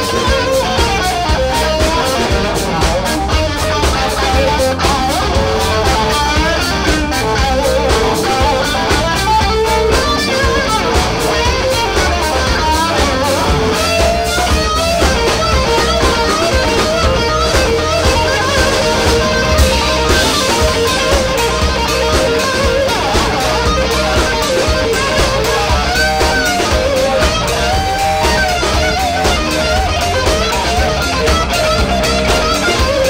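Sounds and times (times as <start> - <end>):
bass guitar: 0.0 - 33.0
drums: 0.0 - 33.0
electric guitar lead: 0.0 - 33.0.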